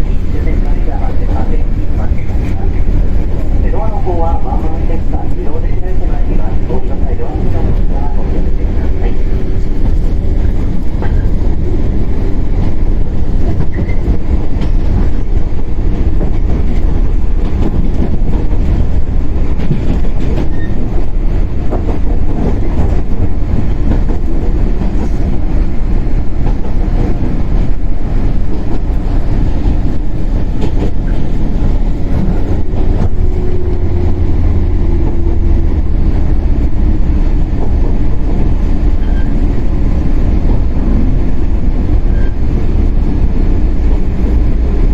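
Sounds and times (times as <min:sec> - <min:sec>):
train motors and wheels rumbling: 0:00.0 - 0:44.9.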